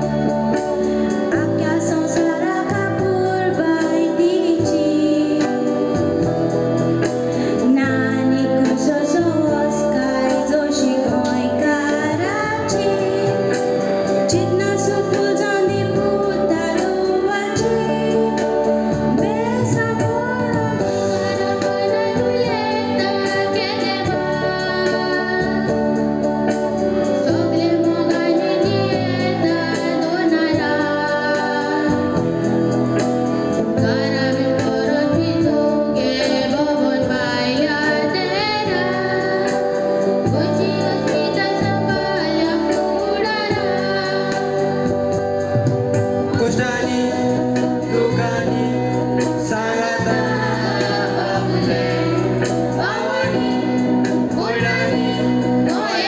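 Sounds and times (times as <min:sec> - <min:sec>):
girl singing into a microphone: 0:00.0 - 0:56.0
guitar: 0:00.0 - 0:56.0
live band accompaniment: 0:00.0 - 0:56.0.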